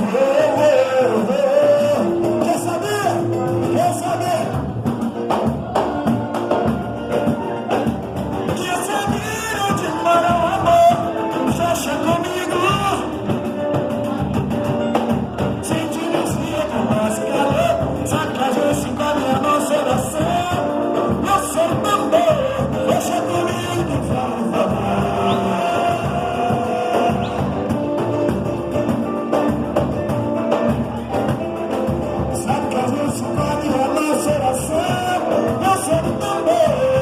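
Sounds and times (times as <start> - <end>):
heavy bass: 0.0 - 37.0
percussion and drum hits: 0.0 - 37.0
person singing: 0.0 - 37.0.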